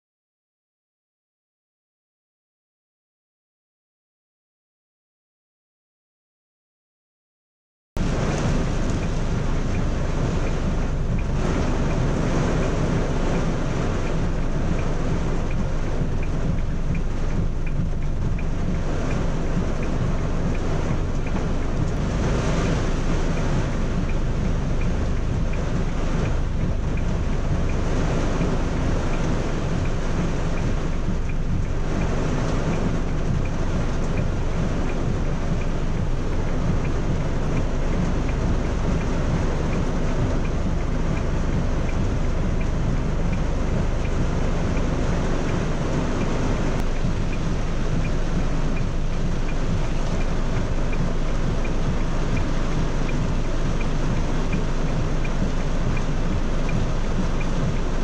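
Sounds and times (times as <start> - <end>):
heavy rain on a car: 8.0 - 58.0
low rumble: 8.0 - 58.0.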